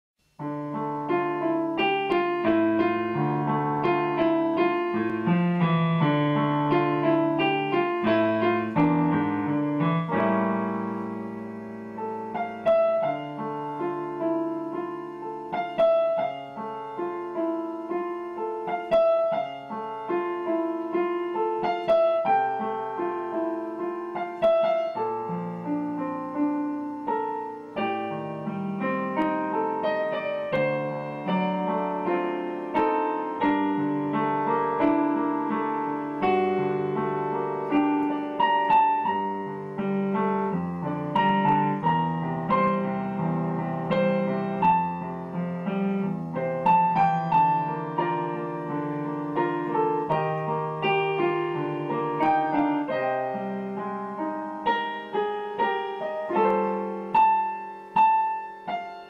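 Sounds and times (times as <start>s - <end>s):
slow gentle piano music: 0.2s - 59.0s.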